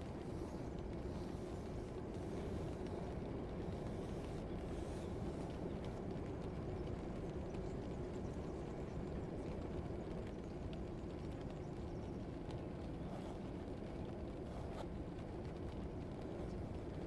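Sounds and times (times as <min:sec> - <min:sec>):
faint clicks and taps: 0:00.0 - 0:17.0
low rumbling background noise: 0:00.0 - 0:17.0.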